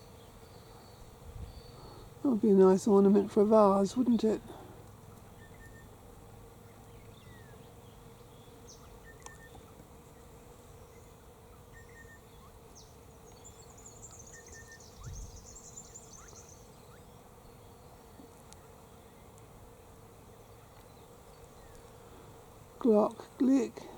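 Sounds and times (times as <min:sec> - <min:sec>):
bees buzzing: 0:00.0 - 0:23.9.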